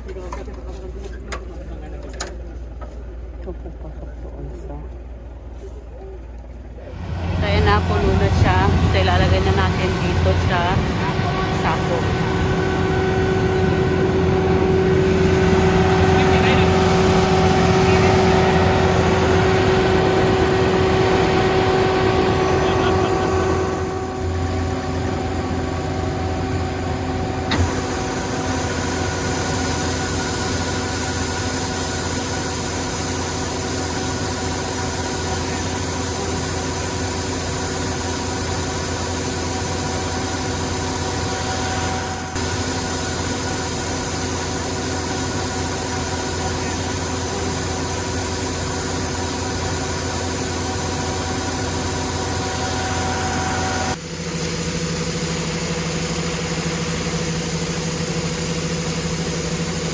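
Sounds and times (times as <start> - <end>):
harvester engine running: 0.0 - 59.9.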